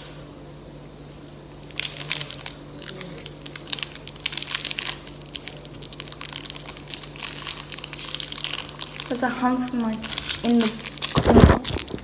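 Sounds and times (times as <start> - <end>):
steady low hum: 0.0 - 12.0
plastic candy wrapper crinkling: 1.6 - 12.0.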